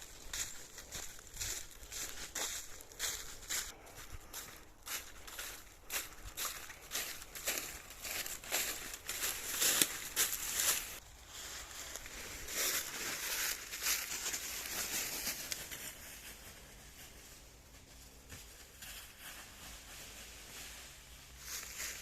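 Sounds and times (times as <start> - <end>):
dry leaves crunching underfoot: 0.0 - 22.0.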